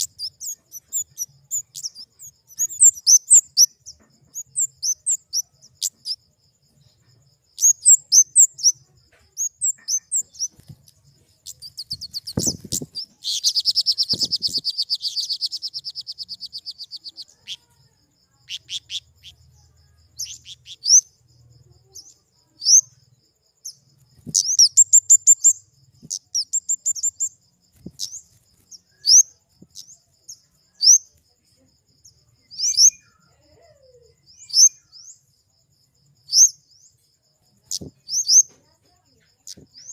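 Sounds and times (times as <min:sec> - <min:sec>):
bird chips and trill: 0:00.0 - 0:31.2, 0:32.0 - 0:33.4, 0:36.2 - 0:37.0, 0:37.6 - 0:39.9.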